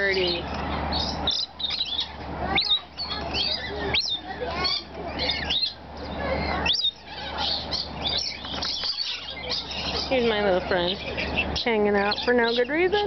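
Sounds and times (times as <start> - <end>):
parrots chirping: 0.0 - 13.0.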